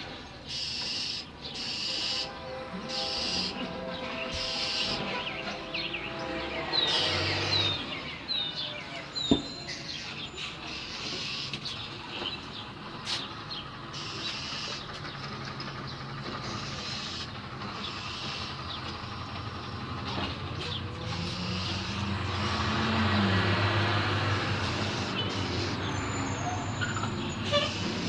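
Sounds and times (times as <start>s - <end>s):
steady outdoor hum: 0.0s - 28.0s
bird chirping: 0.2s - 23.4s, 24.5s - 28.0s
vehicle rumble: 2.2s - 28.0s.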